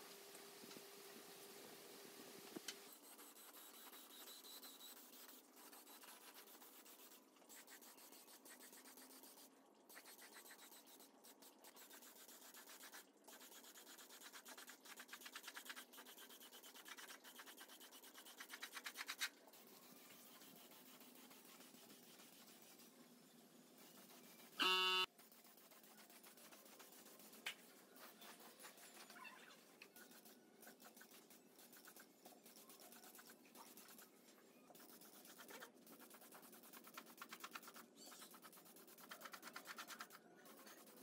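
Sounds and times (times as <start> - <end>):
brush scrubbing: 3.4 - 22.9, 25.2 - 29.2, 30.0 - 41.0.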